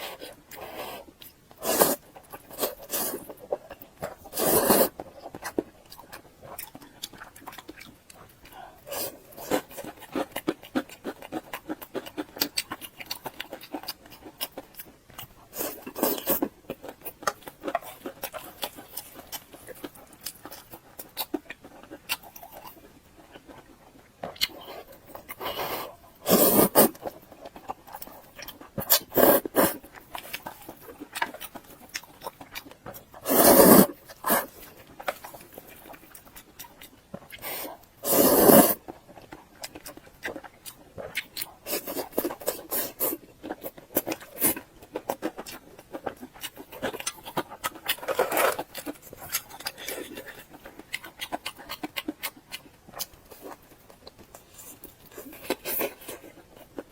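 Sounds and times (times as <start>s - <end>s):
wet chewing and mouth clicks: 0.0s - 56.9s.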